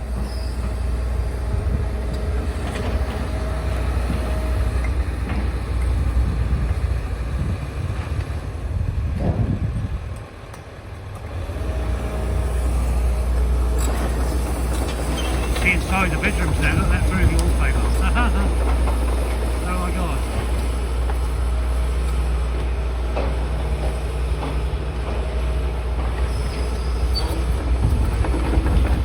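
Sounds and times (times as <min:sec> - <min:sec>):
low engine noise: 0:00.0 - 0:29.0.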